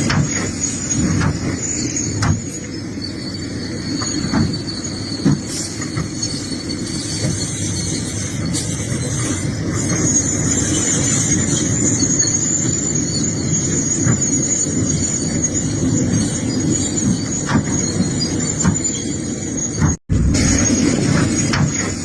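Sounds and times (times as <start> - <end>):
excavator engine rumble: 0.0 - 22.0
high-pitched metallic squeal: 0.0 - 22.0.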